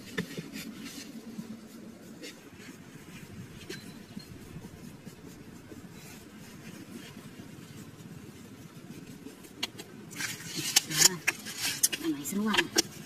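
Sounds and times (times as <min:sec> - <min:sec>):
hands rustling sand: 0:00.0 - 0:13.0
low steady rumble: 0:00.0 - 0:13.0.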